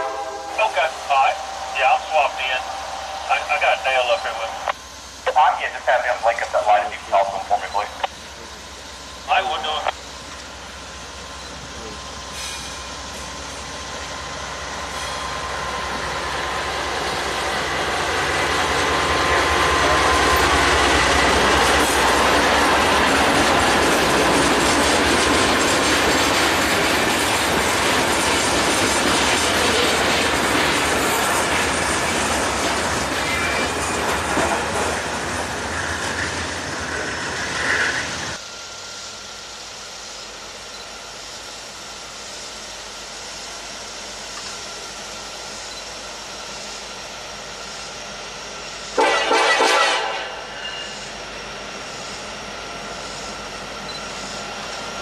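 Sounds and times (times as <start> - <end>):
freight train passing: 0.0 - 55.0
train wheels running on rails: 0.0 - 55.0.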